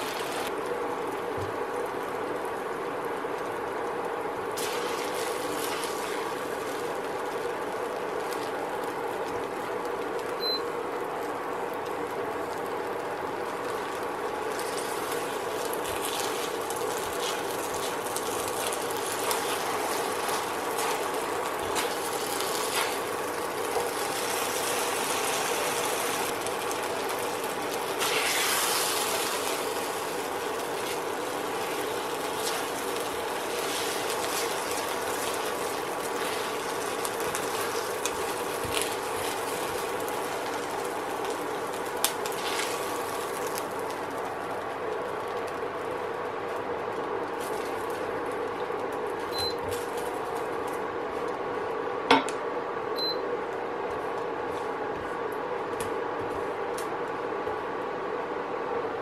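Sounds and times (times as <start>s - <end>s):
egg sizzling in frying pan: 0.0s - 50.6s
steady hum: 0.0s - 59.0s.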